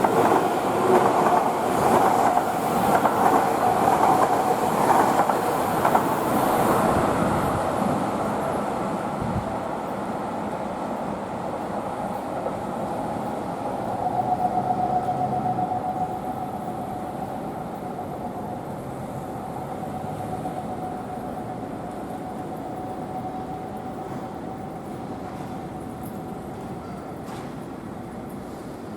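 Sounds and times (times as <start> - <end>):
electric train passing on rails: 0.0 - 28.9.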